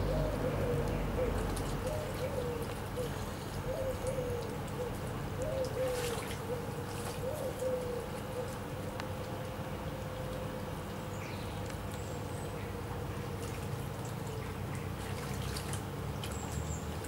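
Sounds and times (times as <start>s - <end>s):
river water trickling over stones: 0.0s - 17.0s
steady wavering hum: 0.0s - 17.0s.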